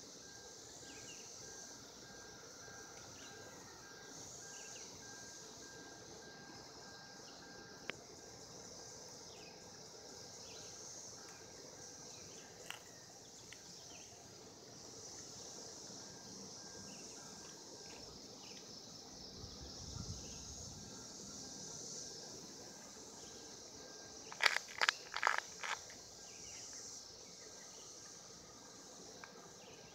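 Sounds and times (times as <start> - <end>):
cicada chorus drone: 0.0 - 29.9.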